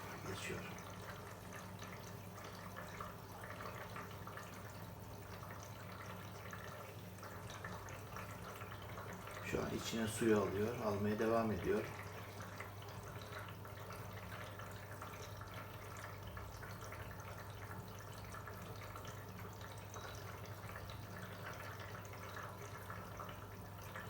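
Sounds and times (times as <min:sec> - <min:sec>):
low steady hum: 0:00.0 - 0:24.0
water running into washing machine: 0:00.0 - 0:24.0.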